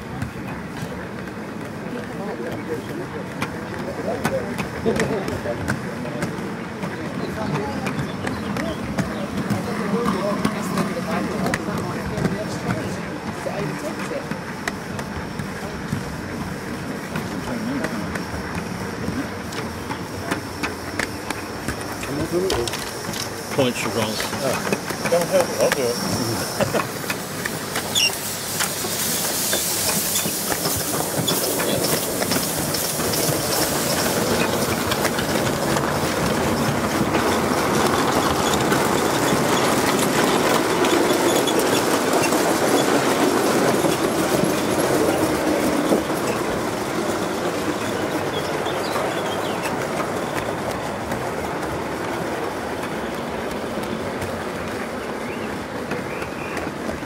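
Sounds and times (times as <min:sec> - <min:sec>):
model train wheels clattering: 0:00.0 - 0:57.0.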